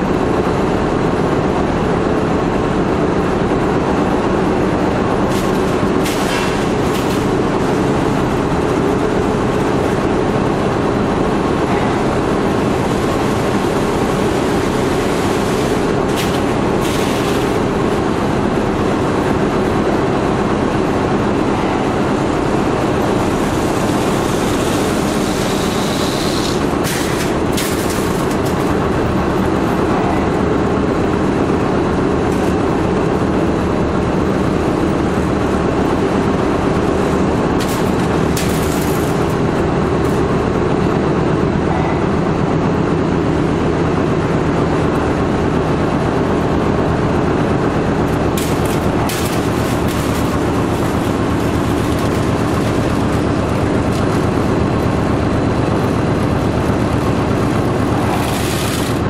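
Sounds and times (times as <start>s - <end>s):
machinery clatter and hum: 0.0s - 59.0s.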